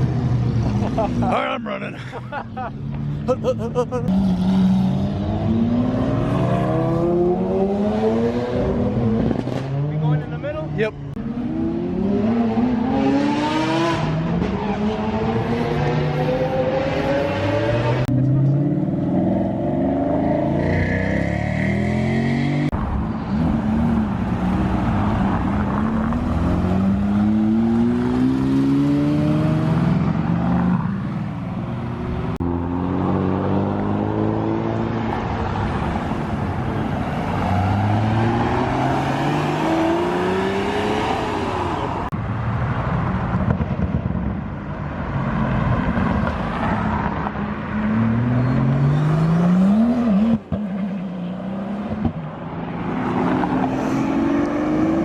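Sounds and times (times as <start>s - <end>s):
performance car engines accelerating: 0.0s - 44.2s, 45.0s - 55.0s.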